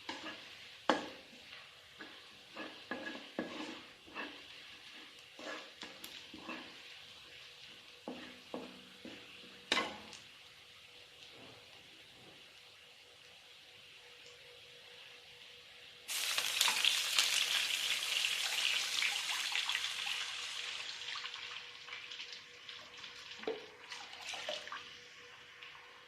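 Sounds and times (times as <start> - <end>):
food sizzling in hot oil: 0.0 - 12.6, 14.6 - 26.0.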